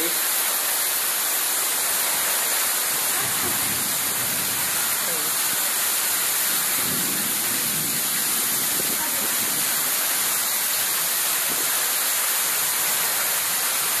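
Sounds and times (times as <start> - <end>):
heavy rain splashing on concrete: 0.0 - 14.0.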